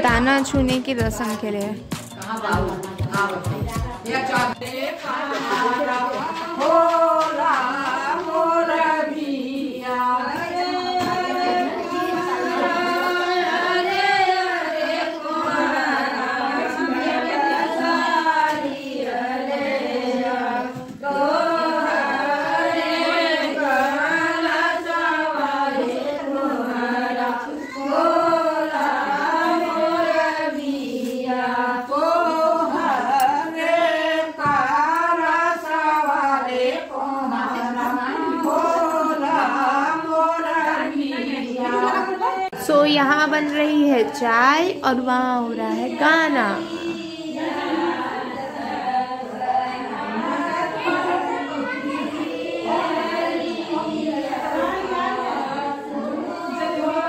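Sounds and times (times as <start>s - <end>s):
women singing folk song together: 0.0s - 57.0s.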